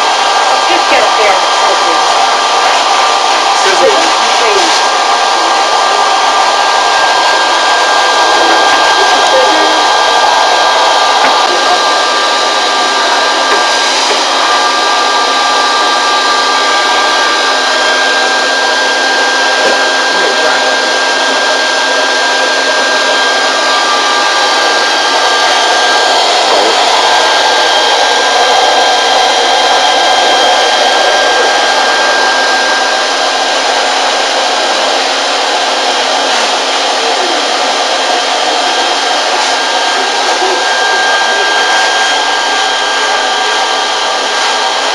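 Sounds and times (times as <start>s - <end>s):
blow dryer running: 0.0s - 44.9s.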